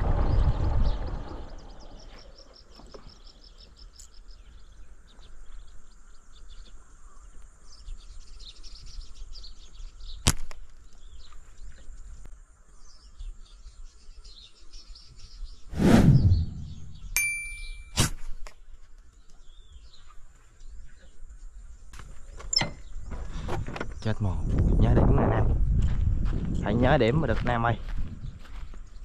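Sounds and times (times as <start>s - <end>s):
small birds chirping: 0.0s - 25.8s, 26.5s - 29.0s.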